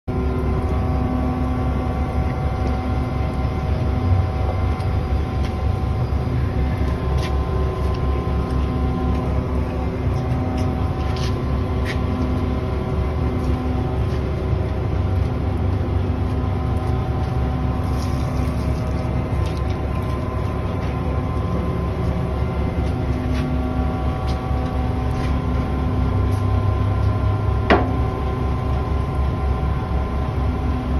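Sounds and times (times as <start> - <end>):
diesel engine rumbling: 0.1 - 30.9.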